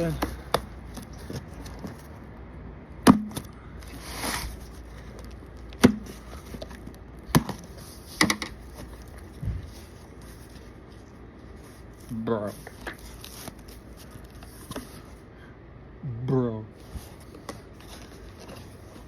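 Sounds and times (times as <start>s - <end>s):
cardboard rustle: 0.0s - 2.2s, 3.4s - 15.2s, 16.8s - 19.0s.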